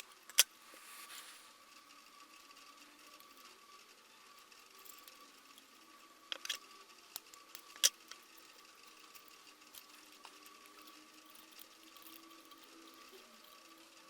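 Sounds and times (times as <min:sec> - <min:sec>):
faint electrical whine: 0:00.0 - 0:14.0.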